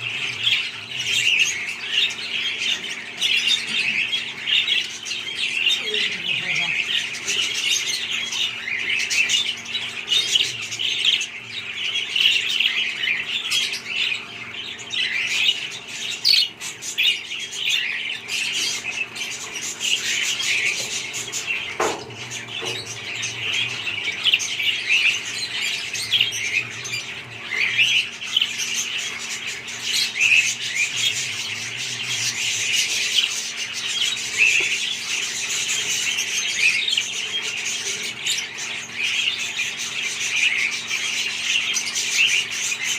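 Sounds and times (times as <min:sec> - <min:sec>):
bird squawk: 0:00.0 - 0:42.9
budgerigars chattering and chirping: 0:00.0 - 0:42.9.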